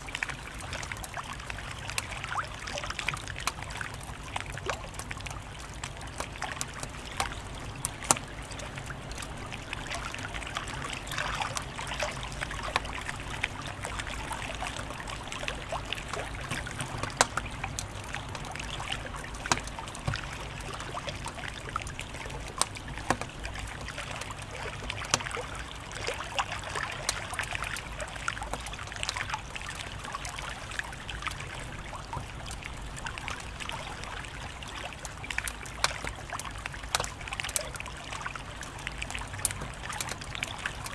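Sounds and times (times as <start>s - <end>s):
wood fire crackling: 0.0s - 30.0s, 30.6s - 40.9s.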